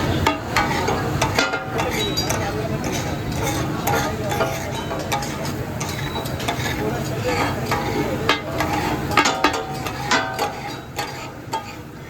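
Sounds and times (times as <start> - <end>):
food sizzling: 0.0 - 12.0
metal spatulas clacking on iron: 0.0 - 12.0.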